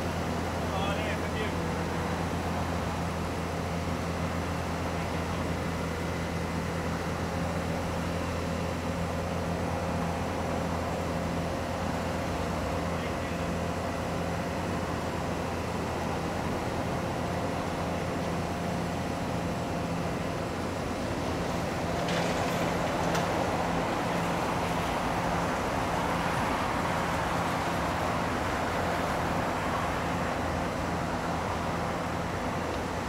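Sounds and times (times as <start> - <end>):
diesel machinery humming: 0.0 - 33.0.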